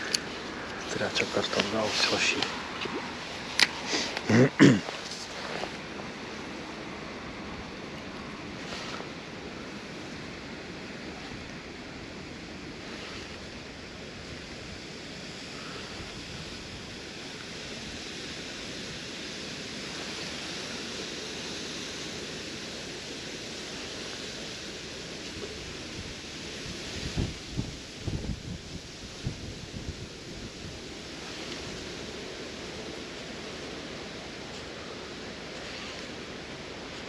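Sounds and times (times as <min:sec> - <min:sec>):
rushing water: 0:00.0 - 0:37.0
wind: 0:00.0 - 0:37.0.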